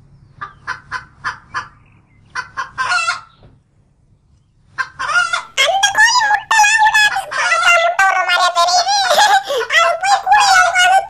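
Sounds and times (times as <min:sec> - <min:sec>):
hen clucking: 0:00.4 - 0:03.3, 0:04.8 - 0:11.0.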